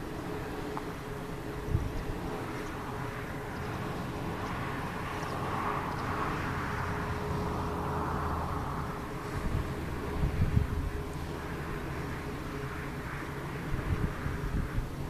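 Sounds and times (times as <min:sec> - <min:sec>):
turbine blade whoosh: 0:00.0 - 0:15.0
wind rumbling on microphone: 0:00.0 - 0:15.0
wind turbine hum: 0:00.0 - 0:15.0.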